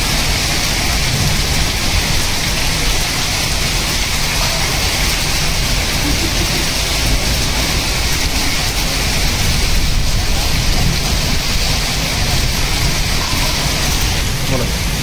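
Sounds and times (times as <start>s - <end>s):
heavy rain and hail on concrete: 0.0s - 15.0s.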